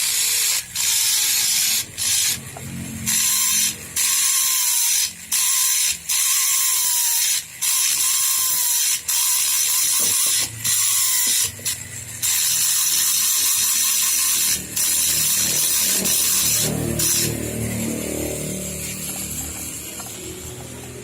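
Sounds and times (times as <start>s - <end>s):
grinding tool on metal: 0.0s - 21.0s.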